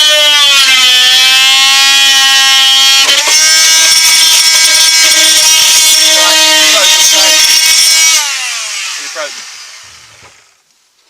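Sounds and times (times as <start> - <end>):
power tool cutting wood: 0.0 - 10.7.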